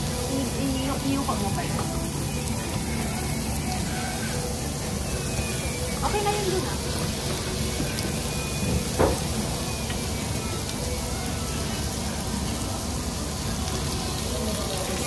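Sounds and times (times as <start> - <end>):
meat sizzling on grill pan: 0.0 - 15.0.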